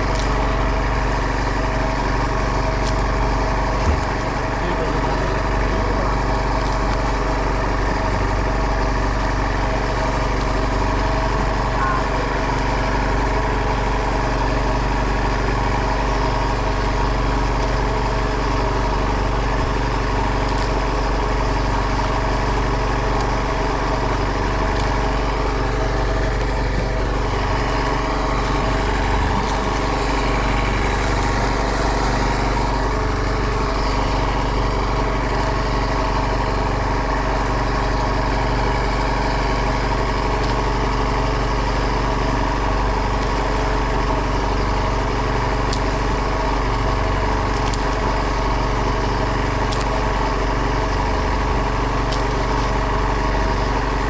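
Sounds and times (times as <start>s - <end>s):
boat engine running steadily: 0.0s - 54.0s.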